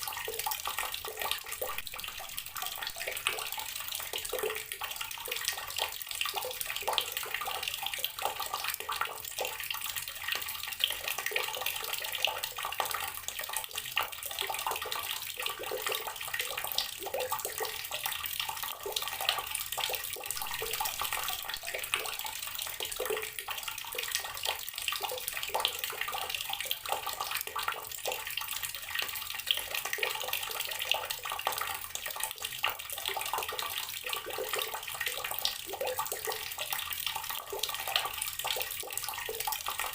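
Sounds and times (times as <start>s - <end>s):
water running from garden tap: 0.0s - 39.9s.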